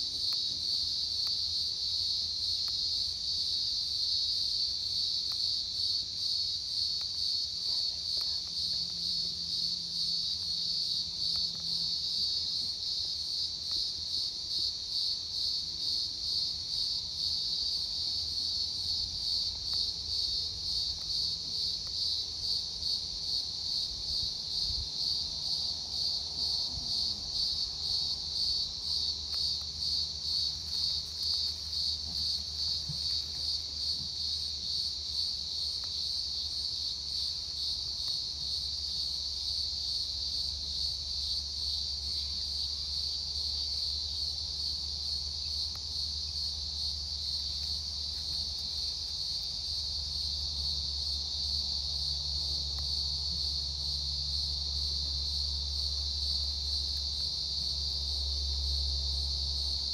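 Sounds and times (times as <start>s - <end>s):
insects buzzing: 0.0s - 59.9s.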